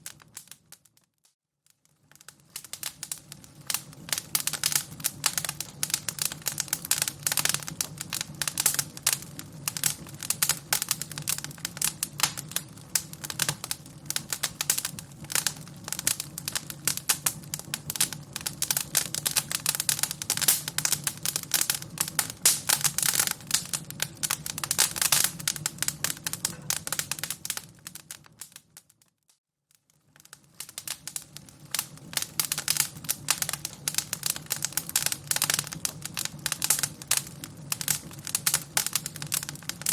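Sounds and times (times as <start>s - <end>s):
fire crackling: 0.0s - 29.2s, 29.8s - 39.9s.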